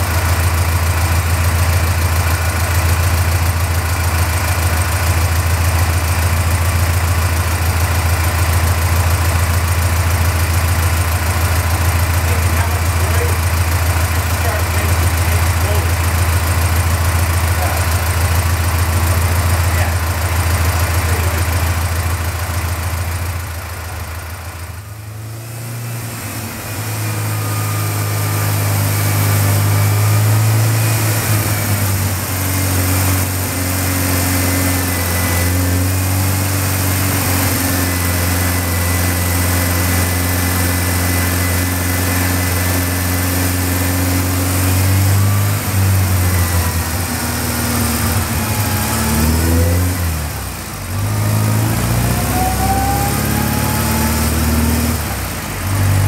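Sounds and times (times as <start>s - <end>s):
supercharged car engine droning: 0.0s - 56.0s.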